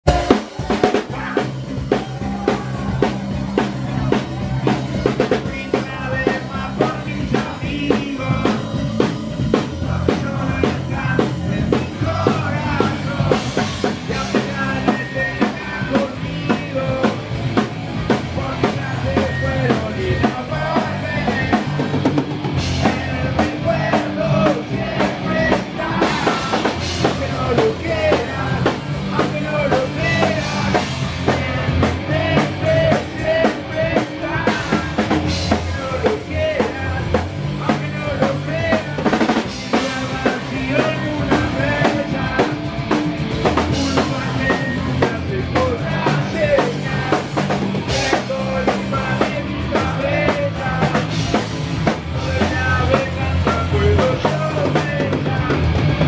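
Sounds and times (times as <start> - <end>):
drum kit beat: 0.0 - 56.0
electric guitars and bass: 0.0 - 56.0
person singing: 0.0 - 56.0
punk rock band playing live: 0.0 - 56.0.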